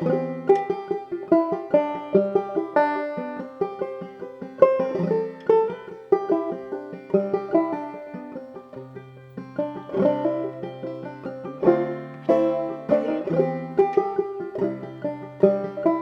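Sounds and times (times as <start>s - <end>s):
clawhammer banjo playing: 0.0s - 16.0s.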